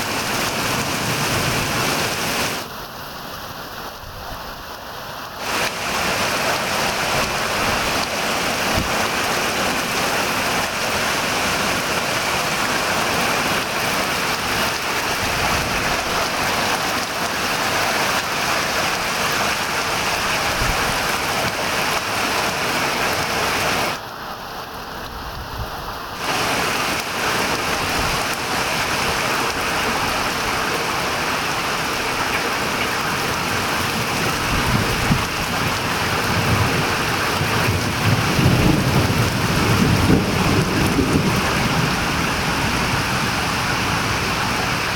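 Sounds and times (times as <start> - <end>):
heavy rain on a pond: 0.0 - 44.9.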